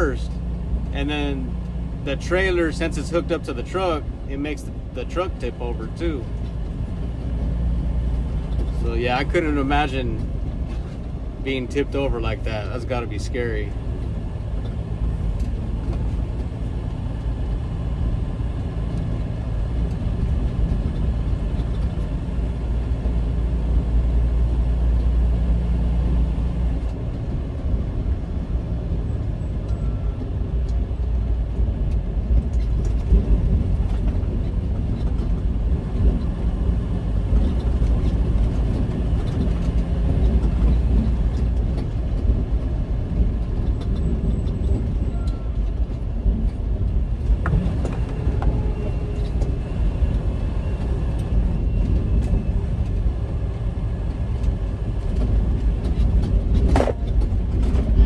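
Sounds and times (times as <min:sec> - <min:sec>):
diesel truck engine rumble: 0:00.0 - 0:58.0
road noise: 0:00.0 - 0:58.0.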